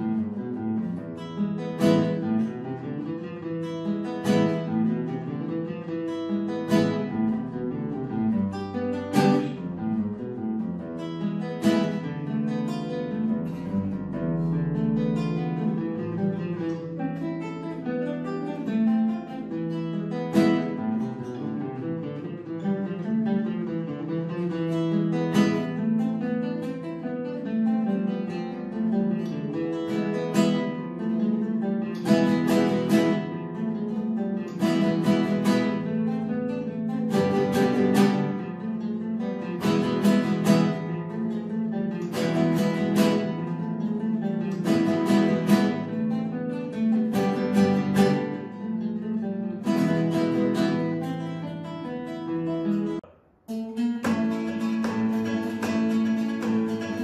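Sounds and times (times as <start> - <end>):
classical guitar duet: 0.0 - 57.0.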